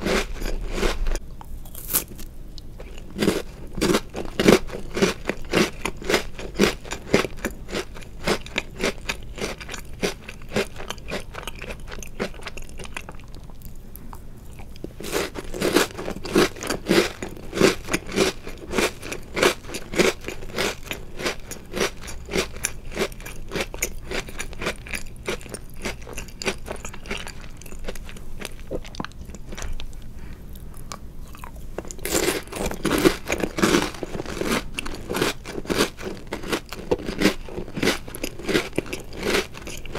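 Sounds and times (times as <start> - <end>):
chewing crunchy cookies: 0.0 - 39.9.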